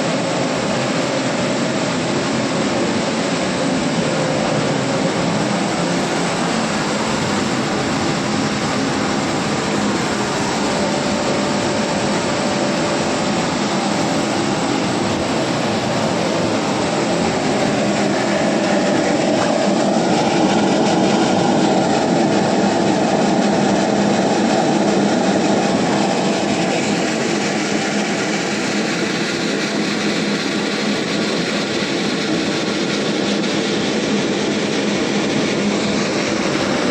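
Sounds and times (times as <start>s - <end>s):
factory machinery humming: 0.0s - 36.9s.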